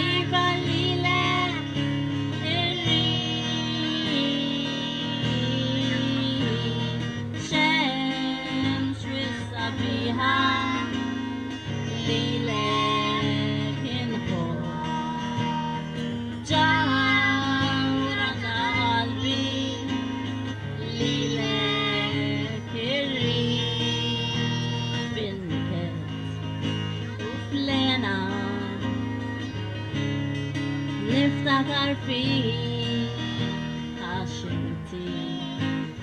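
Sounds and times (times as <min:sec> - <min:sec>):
acoustic guitar chords: 0:00.0 - 0:36.0
woman singing: 0:00.0 - 0:36.0.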